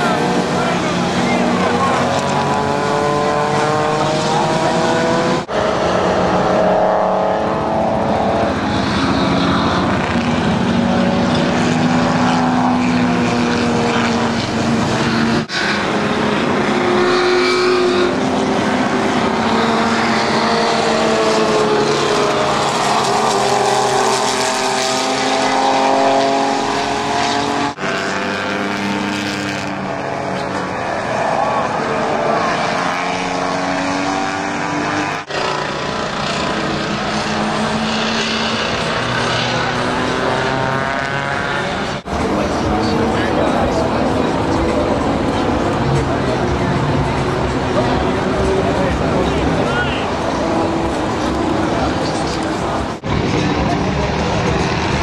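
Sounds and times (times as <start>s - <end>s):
race car engines passing: 0.0s - 55.0s.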